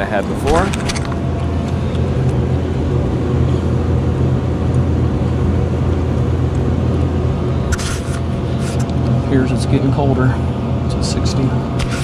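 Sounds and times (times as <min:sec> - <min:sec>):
refrigeration unit humming: 0:00.0 - 0:12.0.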